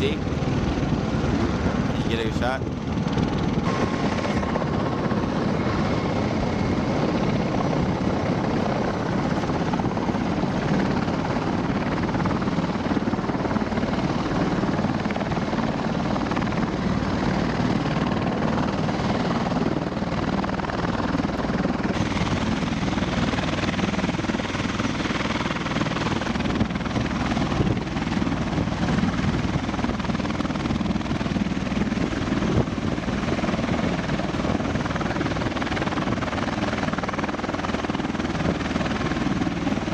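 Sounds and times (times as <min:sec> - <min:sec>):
helicopters lifting off: 0:00.0 - 0:39.9.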